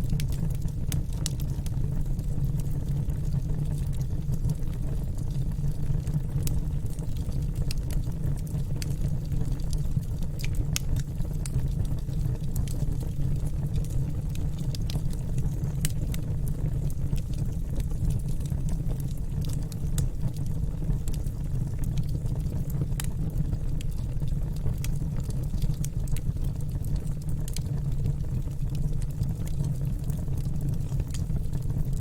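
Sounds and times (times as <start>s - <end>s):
low rumble of burning fire: 0.0s - 32.0s
wood fire crackling: 0.0s - 32.0s.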